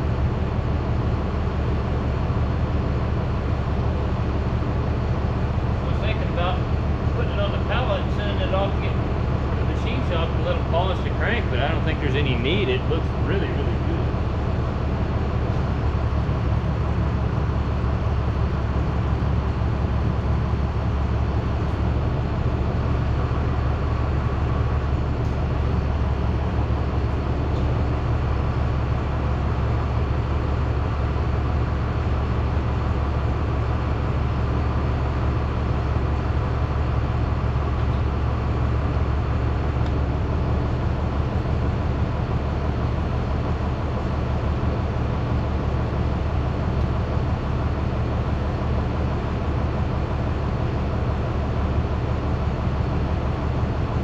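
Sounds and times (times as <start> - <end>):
loud machine rumble: 0.0 - 54.0.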